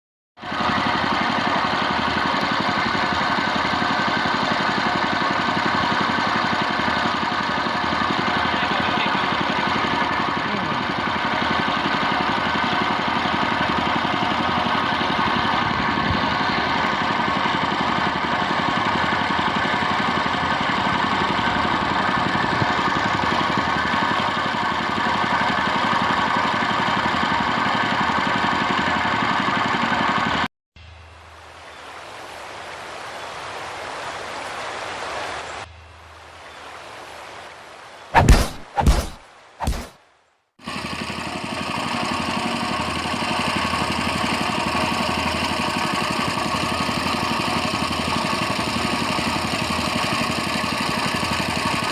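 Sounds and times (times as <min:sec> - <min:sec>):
boat engine running: 0:00.4 - 0:31.7, 0:35.6 - 0:36.6, 0:40.6 - 0:51.9.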